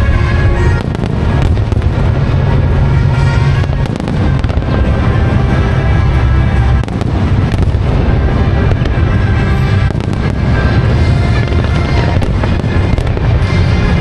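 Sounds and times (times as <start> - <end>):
fireworks bursting: 0.0 - 14.0
music over loudspeakers: 0.0 - 14.0.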